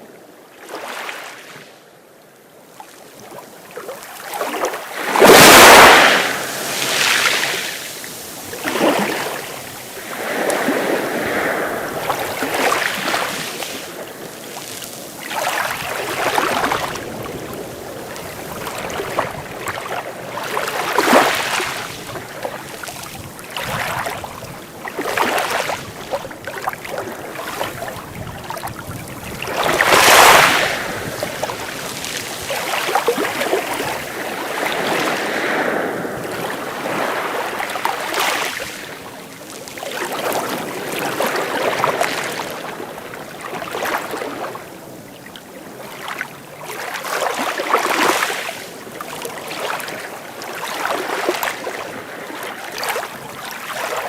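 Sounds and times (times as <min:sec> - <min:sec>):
sea waves breaking: 0:03.2 - 0:54.0.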